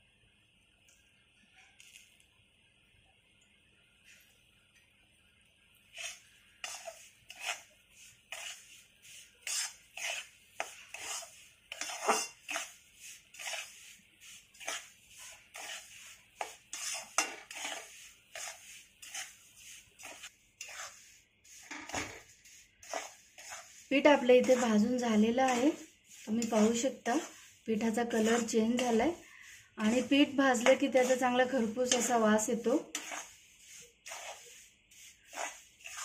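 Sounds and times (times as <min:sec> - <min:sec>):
utensil scraping a pan: 0:05.9 - 0:36.0.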